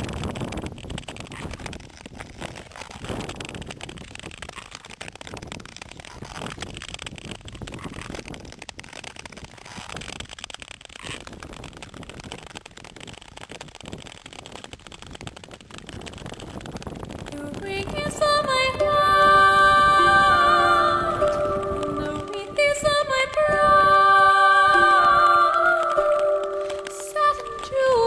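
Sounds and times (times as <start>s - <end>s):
skate blades scraping on ice: 0.0s - 28.0s
wind noise on microphone: 0.0s - 28.0s.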